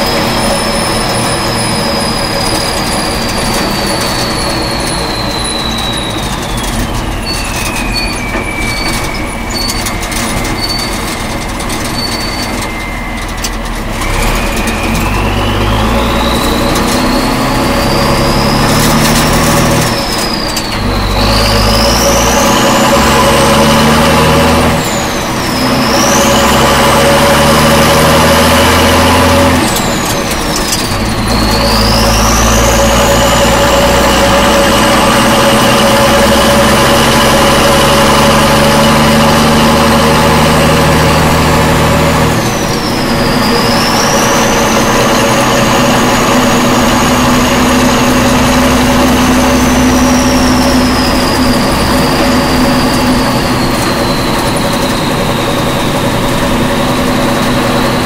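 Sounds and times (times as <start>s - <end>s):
high drivetrain whine: 0.0s - 58.0s
truck engine from inside cab: 0.0s - 58.0s.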